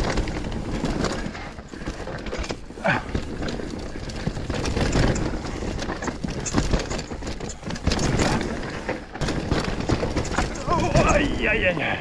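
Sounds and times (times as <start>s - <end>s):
bike frame and chain rattling: 0.0s - 12.0s
bike tyres rumbling over dirt: 0.0s - 12.0s.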